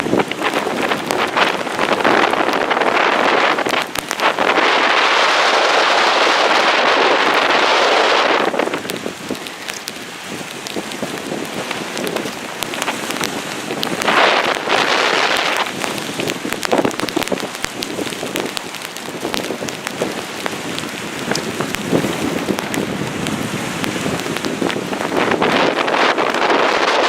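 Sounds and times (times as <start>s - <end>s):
heavy rain falling: 0.0s - 27.0s
wind gust rushing: 0.0s - 27.0s.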